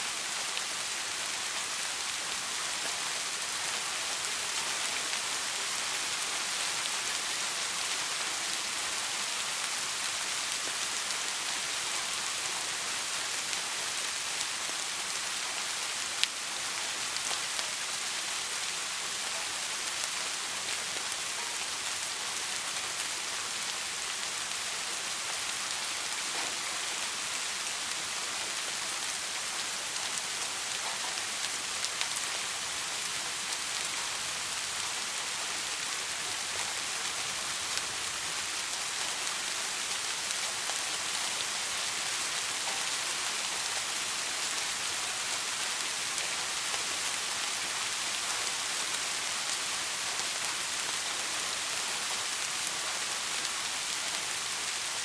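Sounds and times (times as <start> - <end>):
soft rain falling: 0.0 - 55.0.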